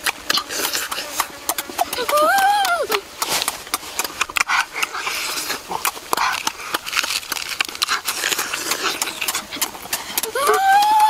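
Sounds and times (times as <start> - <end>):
people chewing and lip-smacking: 0.0 - 11.0.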